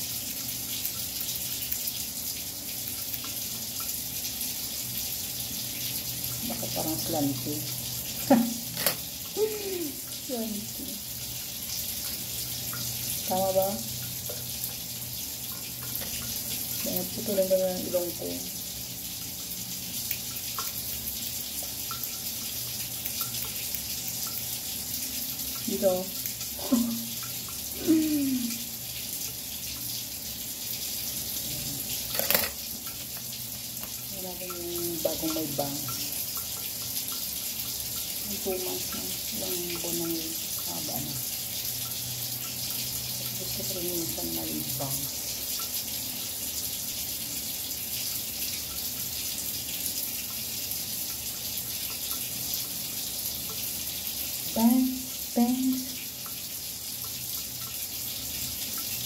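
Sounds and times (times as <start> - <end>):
water running from a tap: 0.0 - 59.0.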